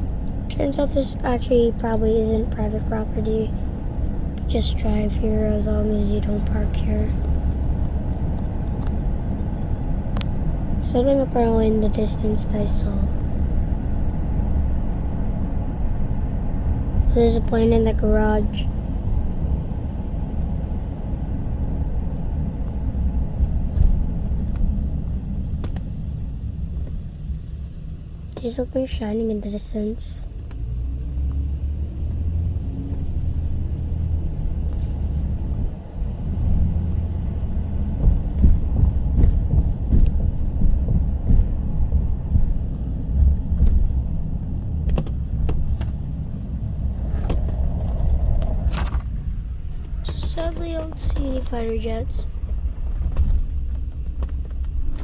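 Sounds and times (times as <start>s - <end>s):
car cabin rumble: 0.0s - 55.0s.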